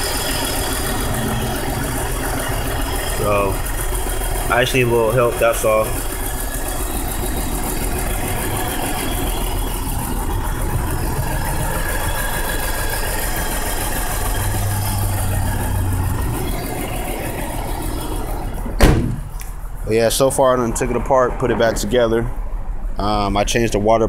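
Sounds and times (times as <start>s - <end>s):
car engine idling roughly: 0.0s - 23.7s.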